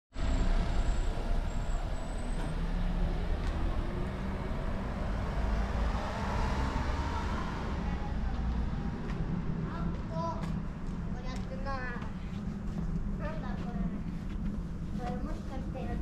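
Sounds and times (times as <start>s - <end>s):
road traffic rumble: 0.1s - 16.0s.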